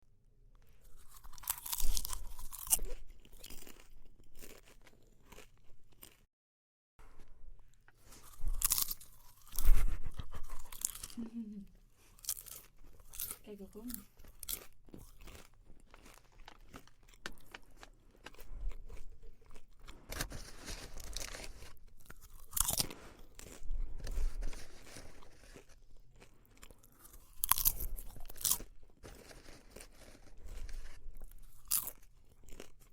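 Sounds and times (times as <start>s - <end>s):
person chewing popcorn: 0.5s - 6.3s, 7.2s - 32.9s.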